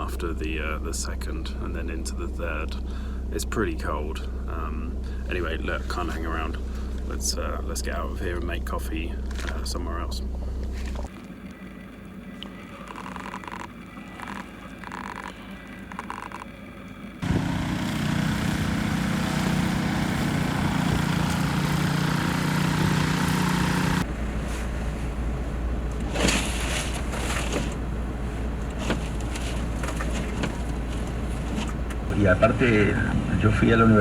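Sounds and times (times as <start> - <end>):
van engine running: 0.0 - 12.3, 15.9 - 34.0.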